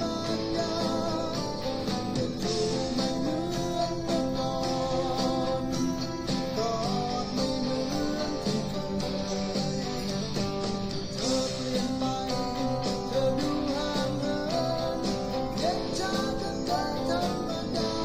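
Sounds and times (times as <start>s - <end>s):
electric guitar melody: 0.0s - 18.0s.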